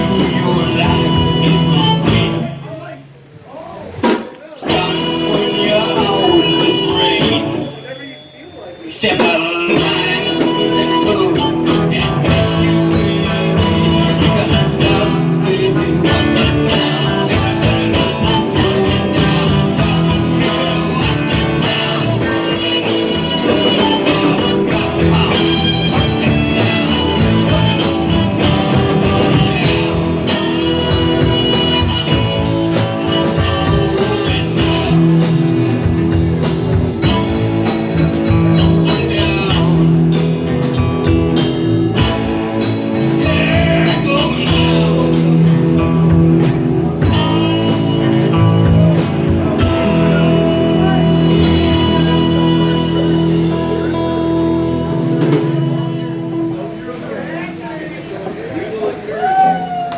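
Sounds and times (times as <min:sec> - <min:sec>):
steady drum beat: 0:00.0 - 0:08.1, 0:09.0 - 0:59.9
guitar band music: 0:00.0 - 0:59.9.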